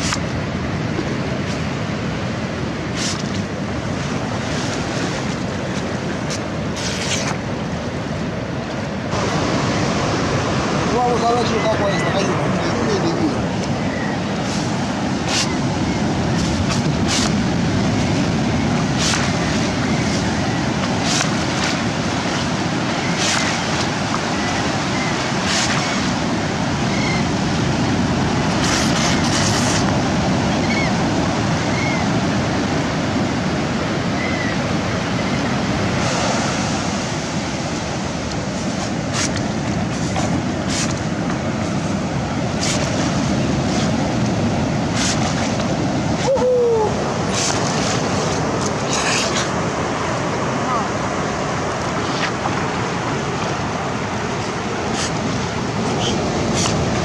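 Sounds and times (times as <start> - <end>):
ocean surf washing up: 0.0 - 57.0
wind on microphone: 0.0 - 57.0.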